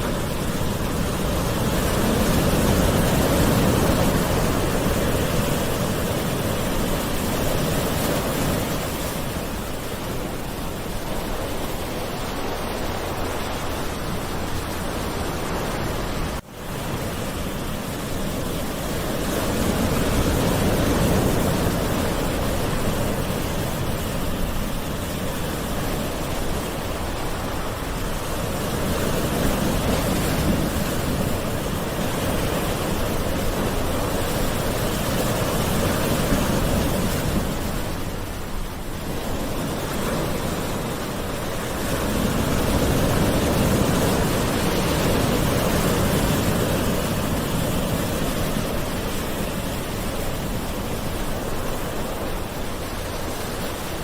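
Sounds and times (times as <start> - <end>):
gentle sea waves washing in: 0.0 - 54.0.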